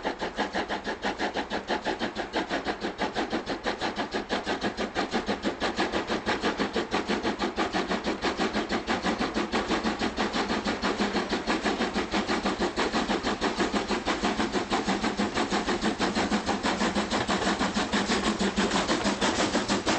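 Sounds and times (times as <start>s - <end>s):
steam locomotive chuffing: 0.0s - 19.9s.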